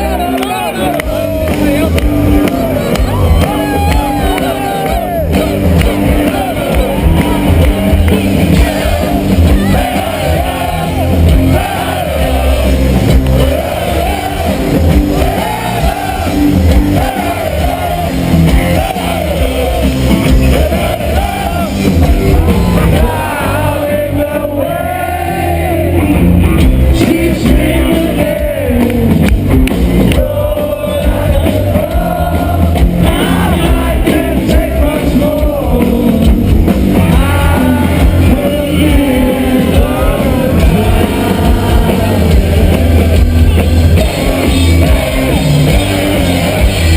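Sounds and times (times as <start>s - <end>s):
loud rock music with singer: 0.0s - 46.9s.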